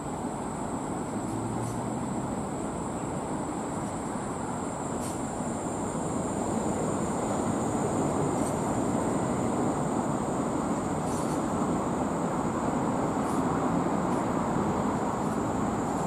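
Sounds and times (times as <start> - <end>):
electric train rumbling: 0.0 - 16.0
high hiss: 0.0 - 16.0.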